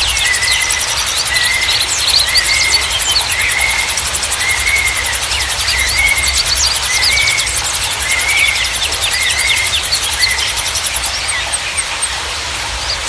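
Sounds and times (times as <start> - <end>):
high insect trill: 0.0 - 13.0
songbirds calling: 0.0 - 13.0.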